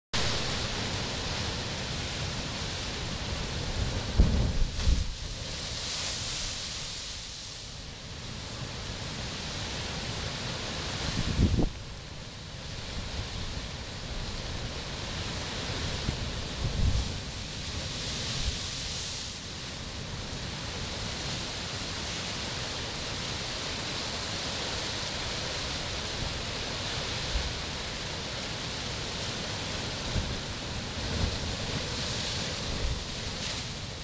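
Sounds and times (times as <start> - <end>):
surf crashing over rocks: 0.2 - 11.9, 12.5 - 34.0.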